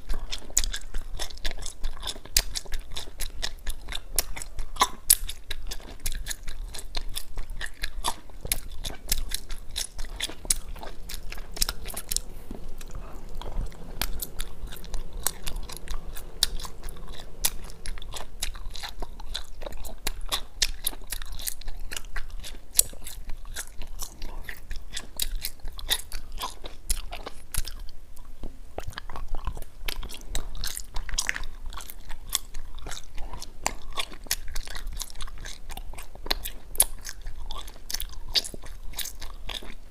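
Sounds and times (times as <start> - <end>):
candy chewing crunches: 0.0 - 39.9.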